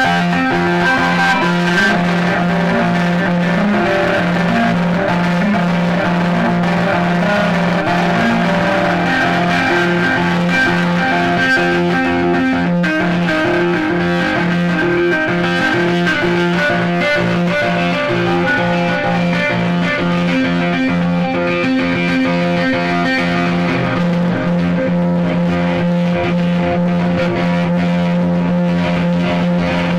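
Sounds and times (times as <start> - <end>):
distorted electric guitar riff: 0.0 - 29.9.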